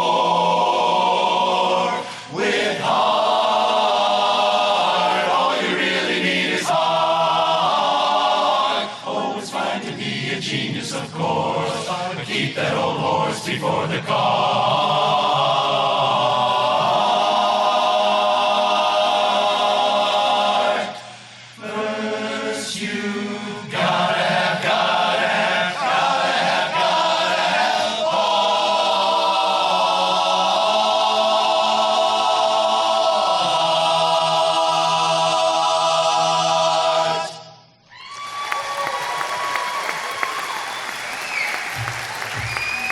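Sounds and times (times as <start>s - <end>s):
chorus singing in close harmony: 0.0s - 37.8s.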